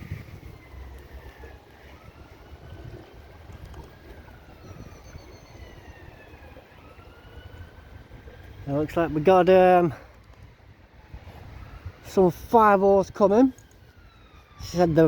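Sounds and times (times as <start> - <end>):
wind rumble: 0.0 - 12.4
distant sirens wailing: 0.0 - 15.0
traffic: 0.0 - 15.0.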